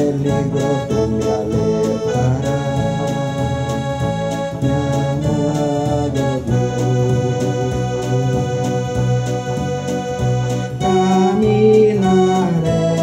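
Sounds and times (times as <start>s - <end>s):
electronic keyboard organ chords: 0.0s - 13.0s
steady light beat: 0.0s - 13.0s.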